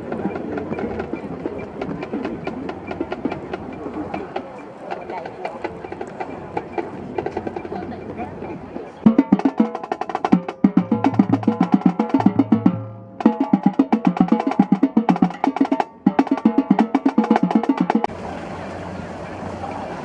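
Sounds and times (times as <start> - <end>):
fast percussion strikes: 0.0 - 18.1.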